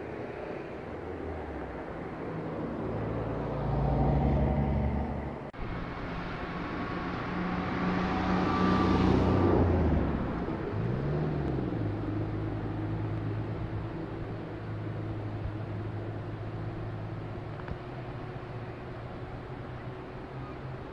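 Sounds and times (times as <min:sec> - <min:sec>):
traffic passing: 0:00.0 - 0:20.9.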